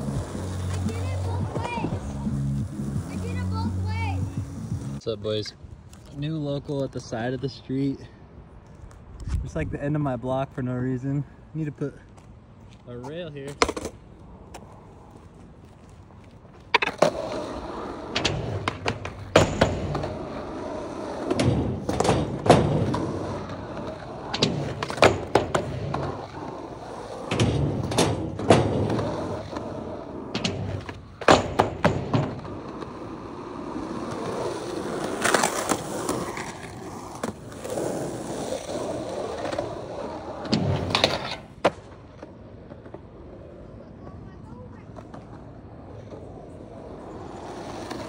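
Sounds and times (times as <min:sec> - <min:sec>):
skateboard clacking on ground: 0:00.0 - 0:04.6, 0:13.4 - 0:48.0
skateboard rolling on asphalt: 0:00.0 - 0:06.4, 0:11.2 - 0:48.0.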